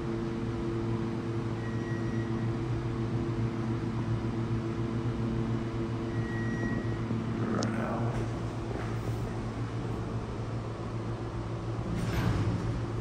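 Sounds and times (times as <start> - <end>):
elevator mechanical hum: 0.0 - 13.0.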